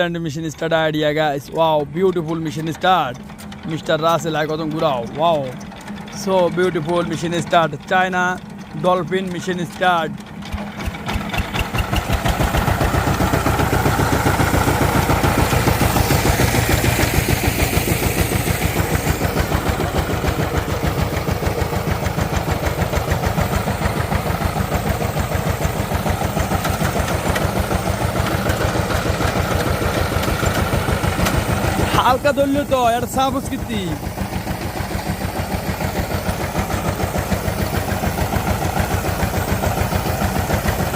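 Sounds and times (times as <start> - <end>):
diesel engine knocking: 0.0 - 40.9.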